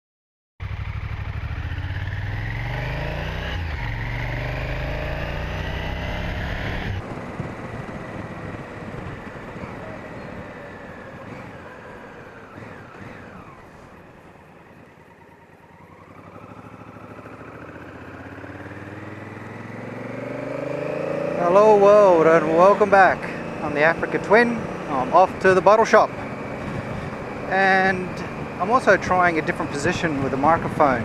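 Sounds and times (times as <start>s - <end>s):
motorcycle engine accelerating: 0.6s - 31.0s.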